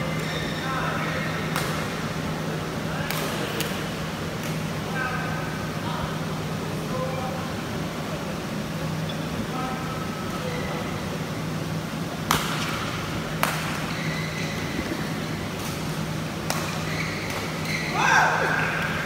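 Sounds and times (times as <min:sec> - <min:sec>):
hall background hum and hiss: 0:00.0 - 0:19.0.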